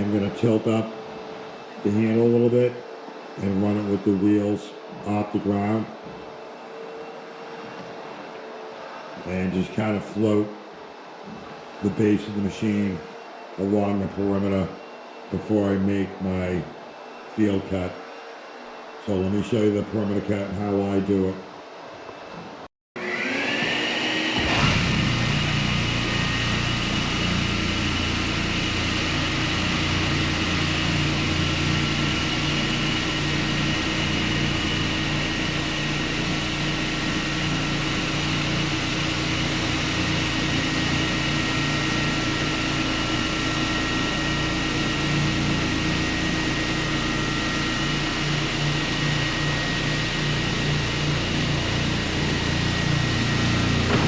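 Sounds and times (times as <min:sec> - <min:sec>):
floor sander whining hum: 0:00.0 - 0:54.0.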